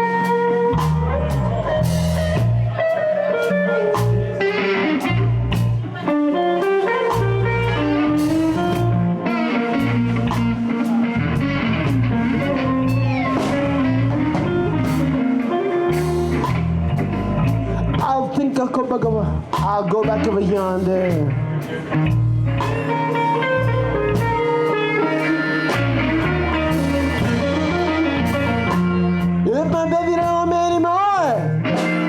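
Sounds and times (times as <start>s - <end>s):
drum kit: 0.0s - 32.0s
guitar: 0.0s - 32.0s
walking bass line: 0.0s - 32.0s.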